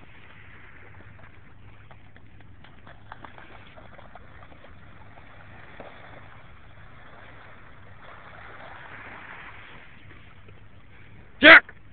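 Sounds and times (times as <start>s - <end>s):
small waves washing on beach: 0.0s - 11.9s.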